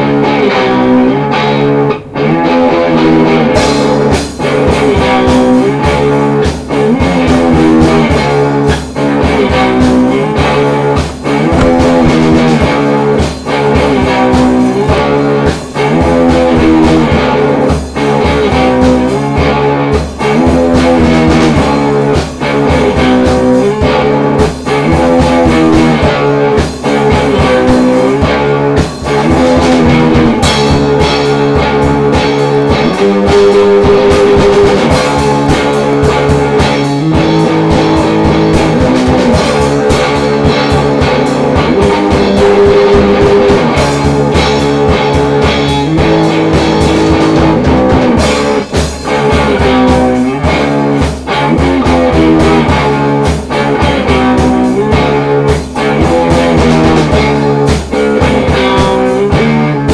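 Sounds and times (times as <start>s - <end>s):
guitar-led music with steady beat: 0.0s - 59.9s.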